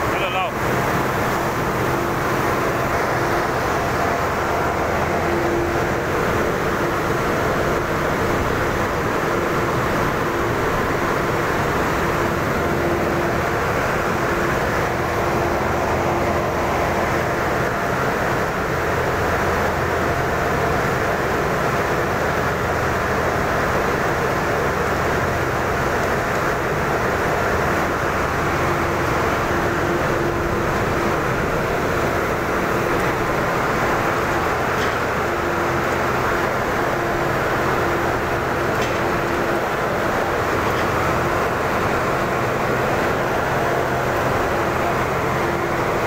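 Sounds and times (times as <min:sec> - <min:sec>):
industrial machinery din: 0:00.0 - 0:19.8, 0:24.5 - 0:46.0.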